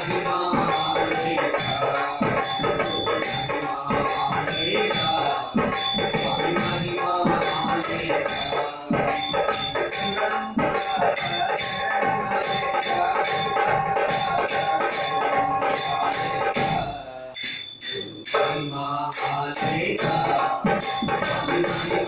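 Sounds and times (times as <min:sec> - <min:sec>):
barrel drum: 0:00.0 - 0:22.0
hand tambourine jingling: 0:00.0 - 0:22.0
men singing devotional song: 0:00.0 - 0:22.0.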